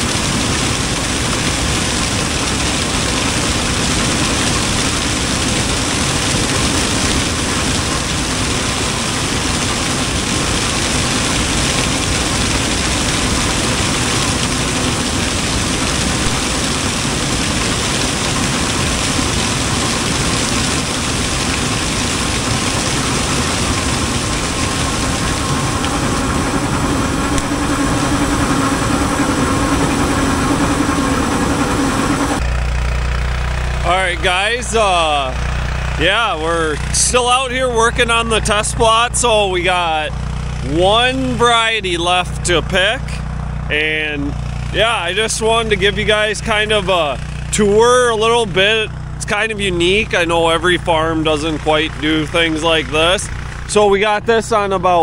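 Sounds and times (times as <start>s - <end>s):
combine harvester running: 0.0s - 55.0s
steady mechanical hum: 0.0s - 55.0s.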